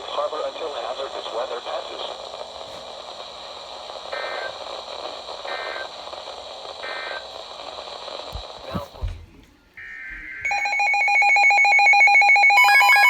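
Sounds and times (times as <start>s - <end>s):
radio hiss: 0.0s - 10.5s.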